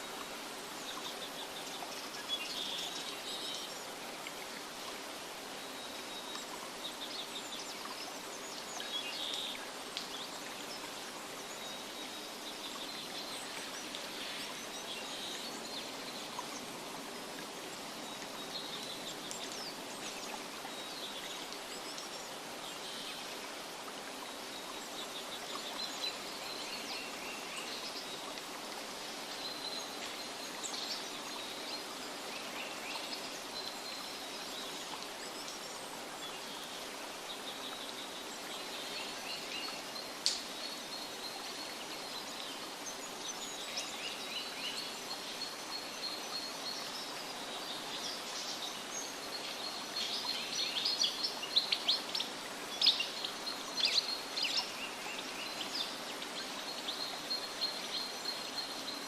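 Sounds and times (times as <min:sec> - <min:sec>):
running water hiss: 0:00.0 - 0:59.0.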